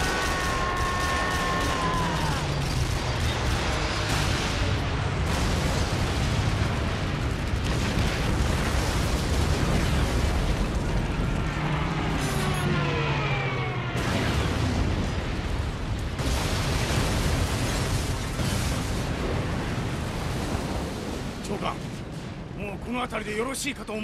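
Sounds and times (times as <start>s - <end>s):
explosions: 0.0s - 23.4s.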